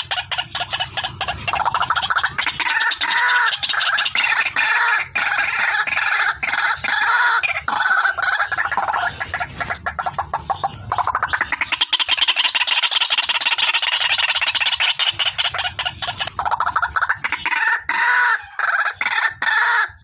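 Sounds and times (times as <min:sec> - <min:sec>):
waterhen calling harsh notes: 0:00.0 - 0:20.0.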